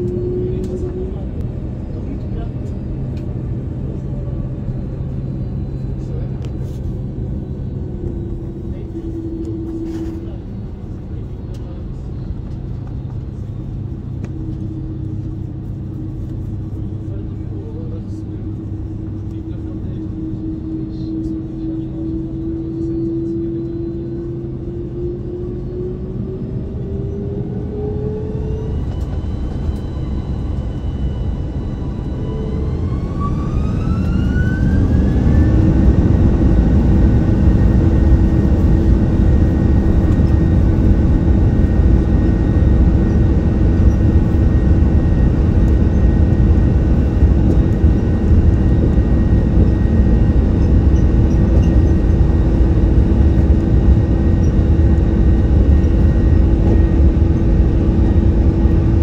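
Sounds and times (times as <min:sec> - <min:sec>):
jet engines spooling up: 0:00.0 - 0:59.0
rushing noise and rumble: 0:00.0 - 0:59.0.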